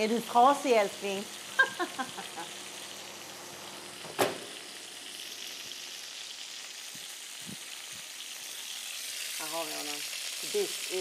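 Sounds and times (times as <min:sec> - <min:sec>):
sausages sizzling in a pan: 0:00.0 - 0:11.0.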